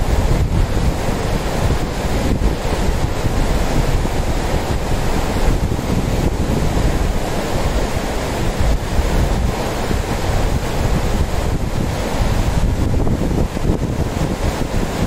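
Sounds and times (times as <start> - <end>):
river rushing over rocks: 0.0 - 15.0
wind rumble on microphone: 0.0 - 15.0.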